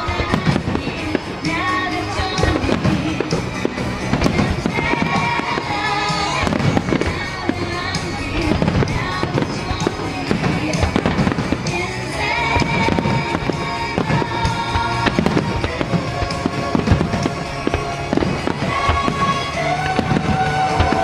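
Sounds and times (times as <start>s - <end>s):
fireworks bursts: 0.0s - 21.0s
music playing: 0.0s - 21.0s.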